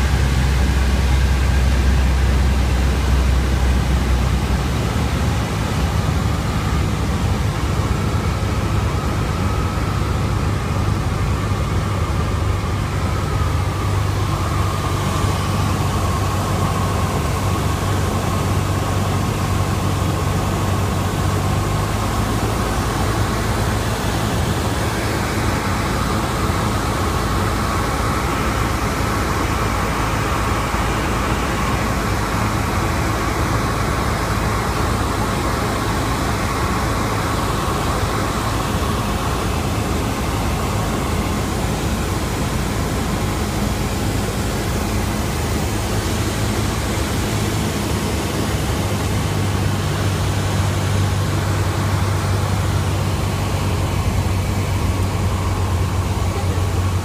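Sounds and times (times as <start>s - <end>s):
small aircraft engine droning: 0.0s - 57.0s.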